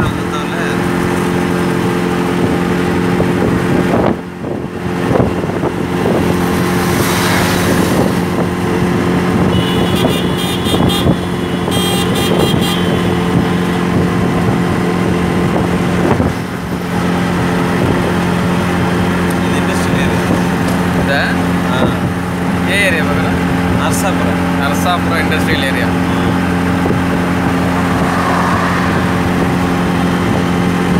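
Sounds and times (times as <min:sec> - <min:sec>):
auto-rickshaw engine running: 0:00.0 - 0:30.9
wind and road noise: 0:00.0 - 0:30.9.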